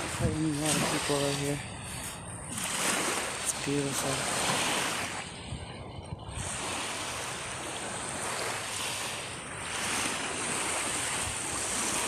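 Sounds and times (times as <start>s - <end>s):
small waves washing on shore: 0.0s - 12.0s.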